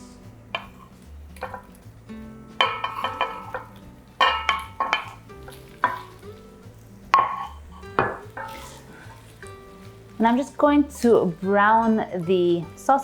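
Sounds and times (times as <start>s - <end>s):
plucked string music: 0.0s - 13.0s
sausage sizzling in a pan: 0.0s - 13.0s.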